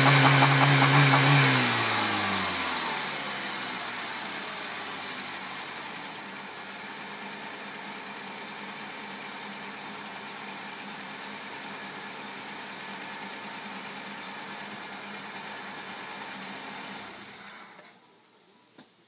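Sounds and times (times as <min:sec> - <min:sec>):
car engine idling: 0:00.0 - 0:17.3.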